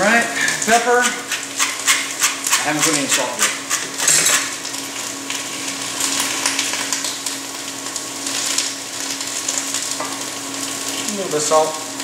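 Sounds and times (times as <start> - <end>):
vegetables frying in oil: 0.0 - 12.0
spice mill crackles: 0.4 - 12.0.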